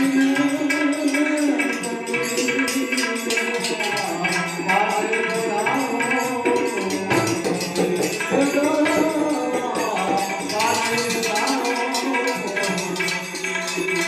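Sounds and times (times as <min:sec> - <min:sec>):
devotional music: 0:00.0 - 0:14.0
jingling hand percussion: 0:00.0 - 0:14.0.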